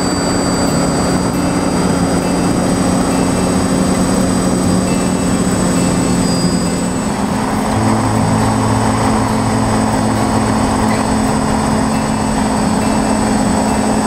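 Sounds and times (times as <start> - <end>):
drone motors droning: 0.0 - 14.0
rushing air: 0.0 - 14.0.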